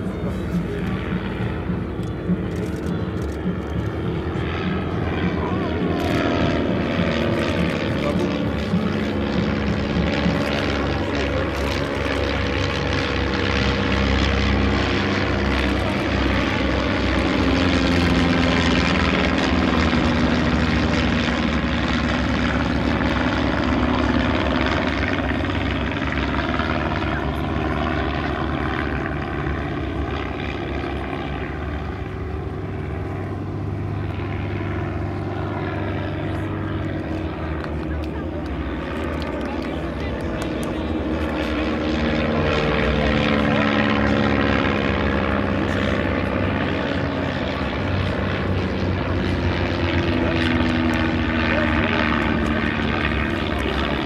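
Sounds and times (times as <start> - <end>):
small plane engine and propeller: 0.0 - 54.0.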